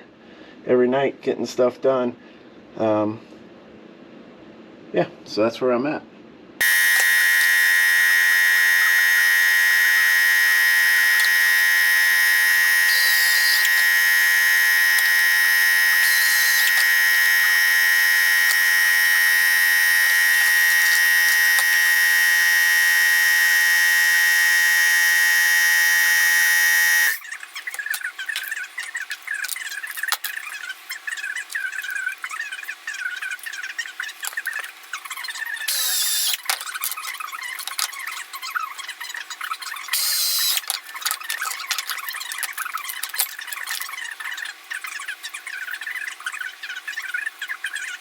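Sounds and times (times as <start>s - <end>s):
high-pitched buzzing tone: 6.6s - 38.7s, 39.5s - 48.0s.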